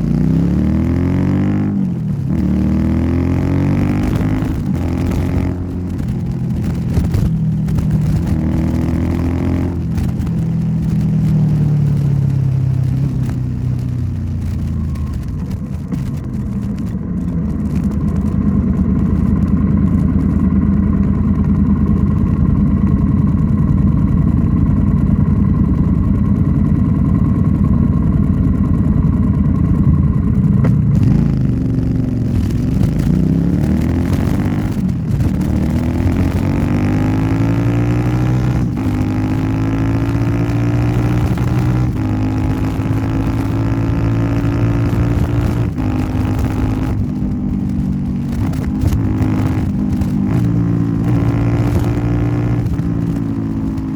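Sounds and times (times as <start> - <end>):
motorcycle engine on the move: 0.0 - 53.9.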